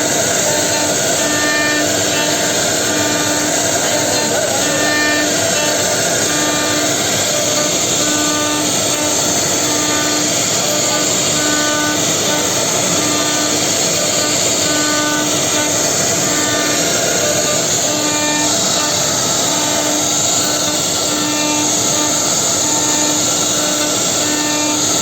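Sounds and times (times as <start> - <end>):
router milling wood: 0.0 - 25.0.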